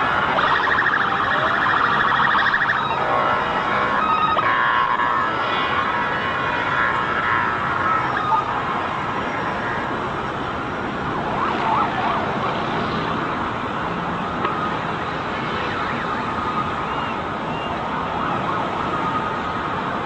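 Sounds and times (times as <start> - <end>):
city street noise: 0.0 - 20.0
sirens wailing: 0.0 - 20.0.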